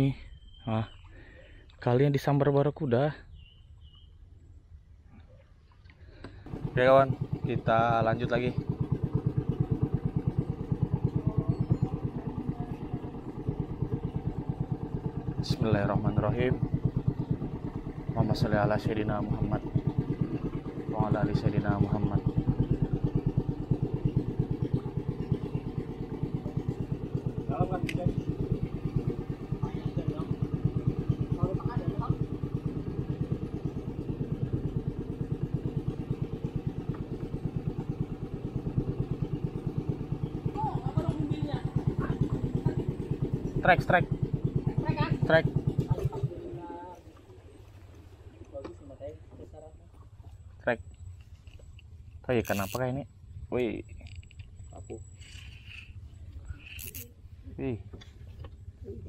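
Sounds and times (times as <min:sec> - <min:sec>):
boat engine throbbing: 0:06.0 - 0:59.0.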